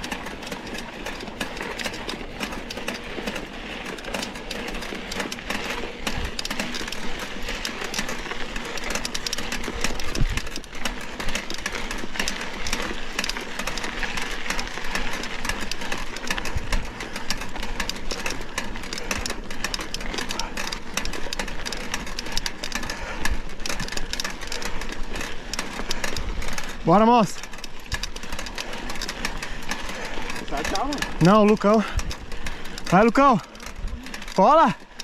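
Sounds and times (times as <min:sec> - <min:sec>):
bike rattling over bumps: 0:00.0 - 0:35.0
wind and tyre noise: 0:00.0 - 0:35.0.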